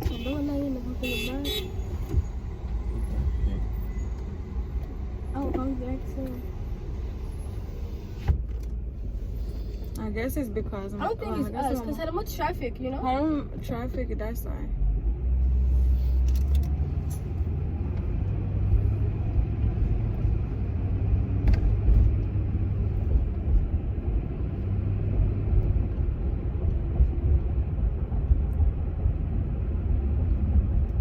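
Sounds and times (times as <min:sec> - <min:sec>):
car rumble from inside cabin: 0:00.0 - 0:31.0.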